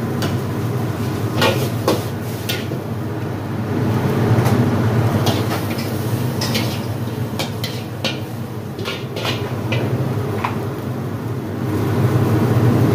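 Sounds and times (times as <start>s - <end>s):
gas burner roaring: 0.0s - 12.9s.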